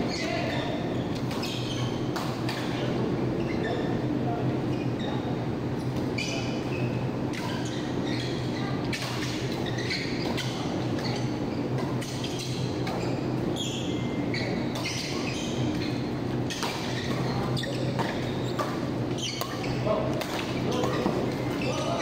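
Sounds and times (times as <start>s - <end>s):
shoes squeaking on court: 0.0s - 22.0s
steady low hum: 0.0s - 22.0s.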